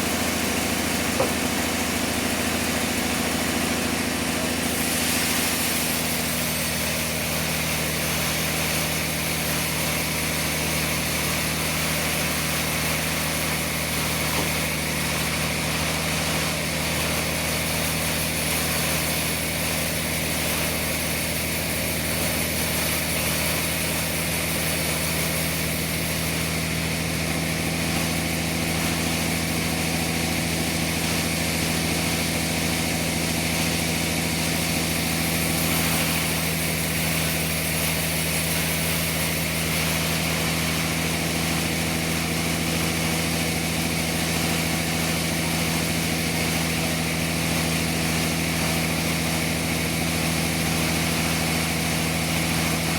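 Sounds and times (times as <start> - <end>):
sawmill machinery hum: 0.0 - 52.9.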